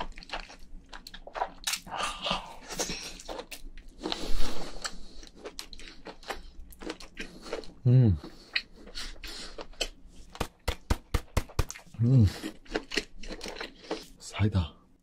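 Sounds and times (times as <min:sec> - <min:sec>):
person chewing with wet smacks: 0:00.0 - 0:01.9, 0:02.5 - 0:14.2.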